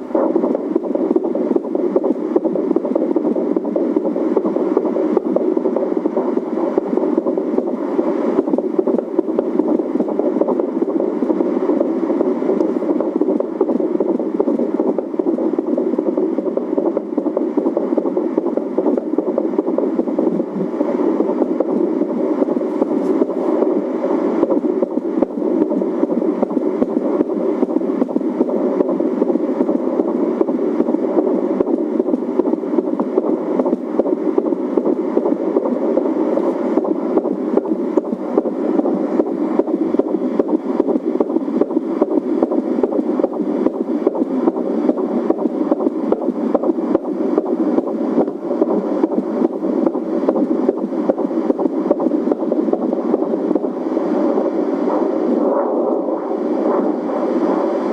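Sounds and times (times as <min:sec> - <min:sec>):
pulsing heartbeat whoosh: 0:00.0 - 0:57.9
static from speaker: 0:00.0 - 0:57.9.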